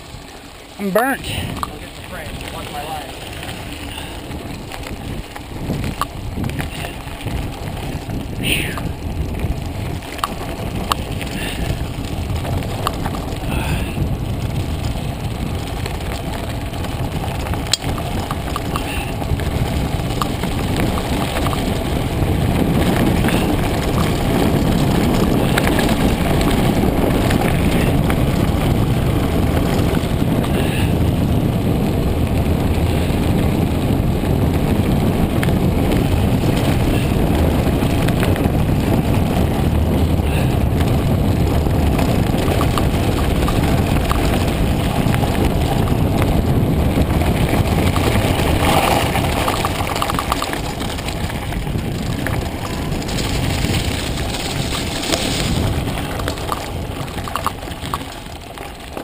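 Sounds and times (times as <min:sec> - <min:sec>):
bike clicks and rattles: 0:00.0 - 0:59.0
bike tyres on gravel: 0:00.0 - 0:59.0
wind rushing over microphone: 0:00.0 - 0:59.0.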